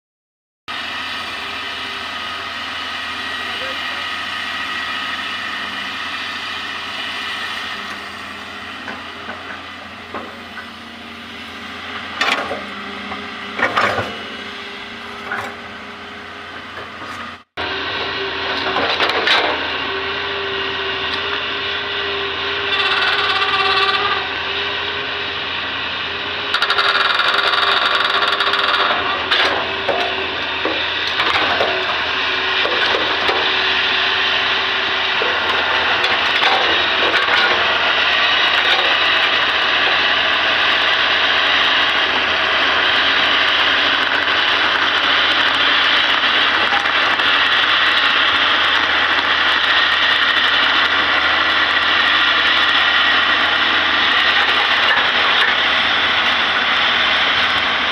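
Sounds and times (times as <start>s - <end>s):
excavator engine and hydraulics: 0.7s - 57.9s.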